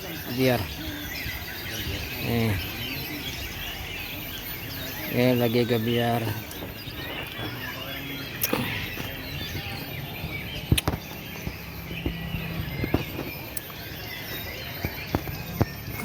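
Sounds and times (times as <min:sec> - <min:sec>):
low steady murmur: 0:00.0 - 0:16.0
songbirds singing and chirping: 0:00.0 - 0:16.0.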